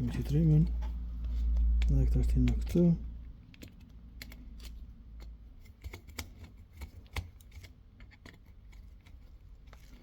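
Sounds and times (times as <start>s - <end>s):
small parts and tools clicking: 1.6s - 10.0s.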